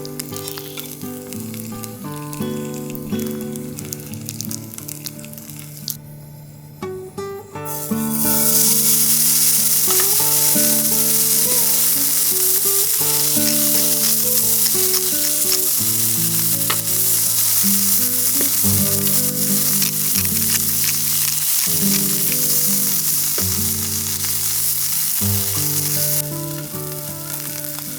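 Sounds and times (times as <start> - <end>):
steak sizzling in a frying pan: 0.0 - 6.0, 7.6 - 27.9.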